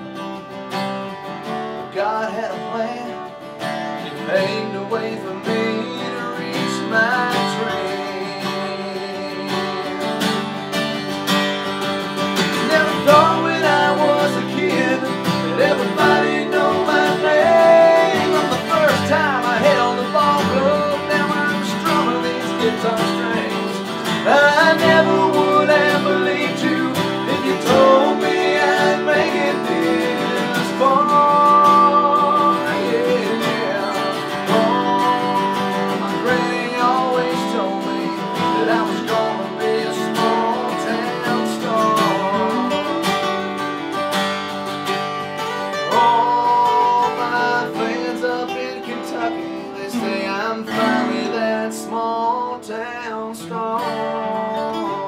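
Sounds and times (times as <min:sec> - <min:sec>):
acoustic guitars playing country: 0:00.0 - 0:55.0.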